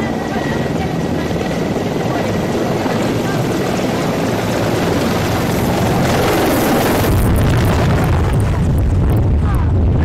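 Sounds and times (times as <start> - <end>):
helicopters flying overhead: 0.0 - 10.0.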